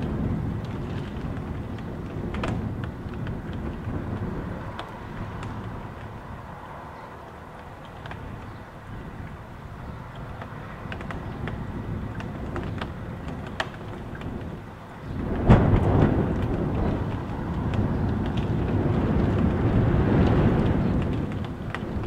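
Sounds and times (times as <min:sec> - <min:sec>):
rain heard from indoors: 0:00.0 - 0:22.0
wind gust hitting house: 0:00.0 - 0:22.0.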